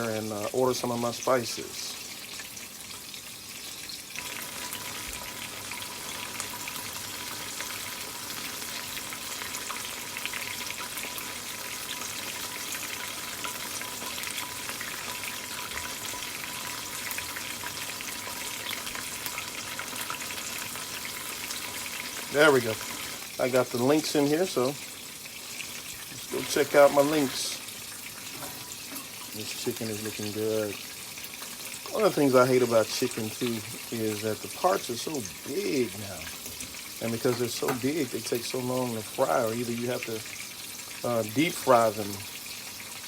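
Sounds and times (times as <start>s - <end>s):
chicken frying in hot oil: 0.0s - 43.0s.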